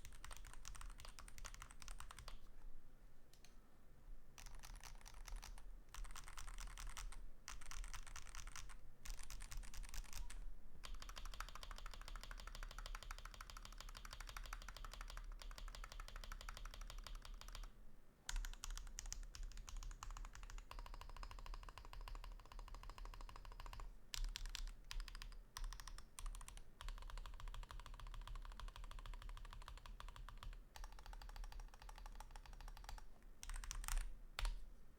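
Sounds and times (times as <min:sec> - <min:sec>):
fast mechanical keyboard typing: 0:00.0 - 0:02.4, 0:04.4 - 0:17.7, 0:18.3 - 0:34.5.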